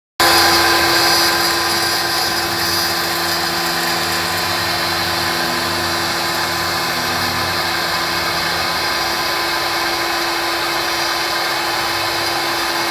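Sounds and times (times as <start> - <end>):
router spindle whine: 0.2 - 12.9.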